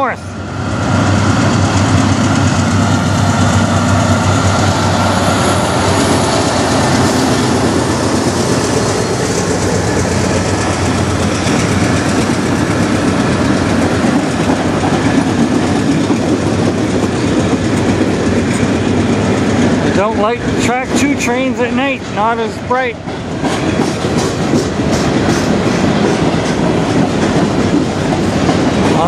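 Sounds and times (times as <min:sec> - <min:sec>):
diesel locomotive passing: 0:00.0 - 0:29.0.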